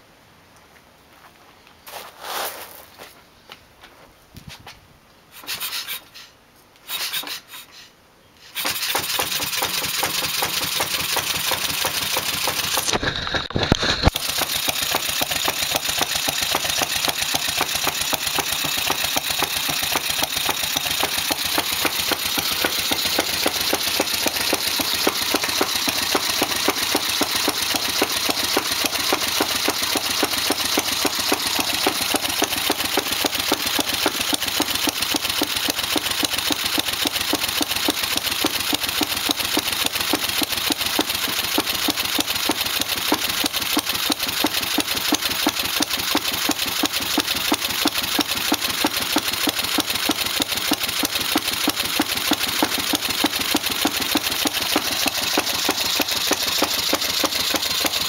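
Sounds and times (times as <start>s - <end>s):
small engine starting and running: 5.3s - 6.3s, 6.9s - 58.0s.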